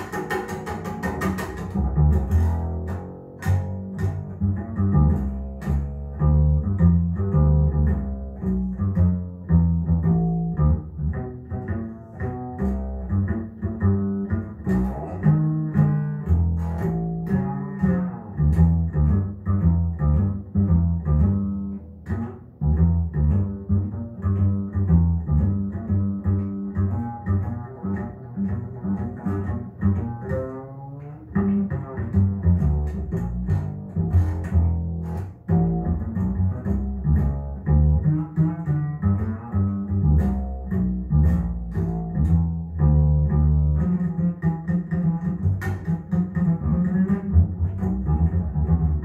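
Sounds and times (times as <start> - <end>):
plucked double bass: 0.0 - 49.0.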